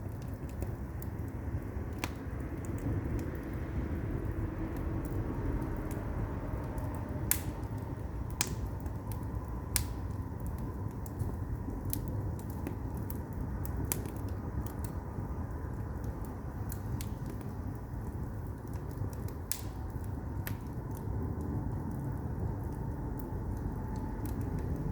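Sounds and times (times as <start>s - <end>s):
fire rumbling: 0.0s - 24.9s
wood crackling and popping: 0.0s - 24.9s.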